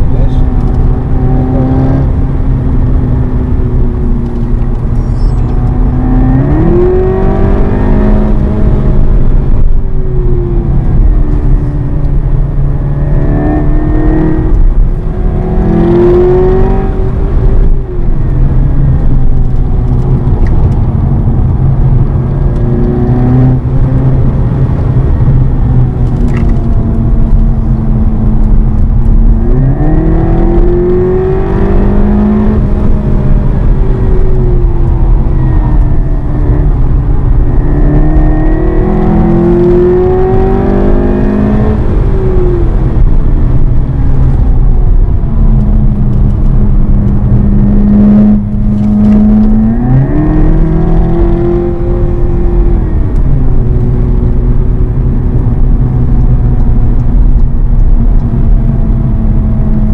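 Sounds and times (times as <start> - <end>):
car engine revving: 0.0 - 59.9
low road rumble: 0.0 - 59.9.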